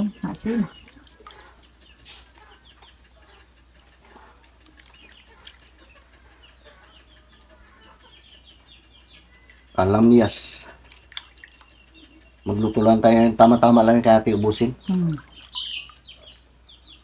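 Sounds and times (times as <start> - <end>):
chickens calling: 0.0 - 17.0
small birds chirping: 0.0 - 17.0.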